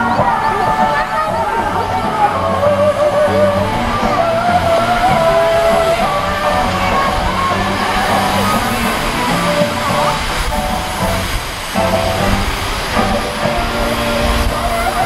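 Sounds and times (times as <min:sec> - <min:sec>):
music with singing voice: 0:00.0 - 0:15.0.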